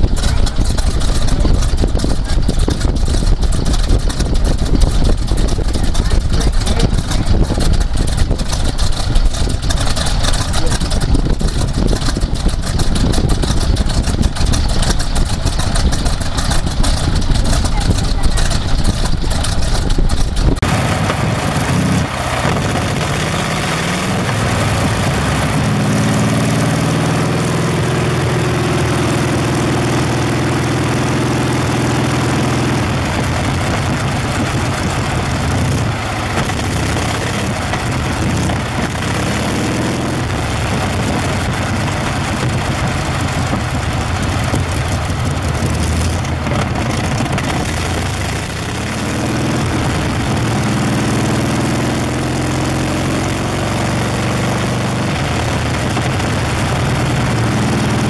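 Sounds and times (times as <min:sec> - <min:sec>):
radial engine running: 0:00.0 - 0:58.0.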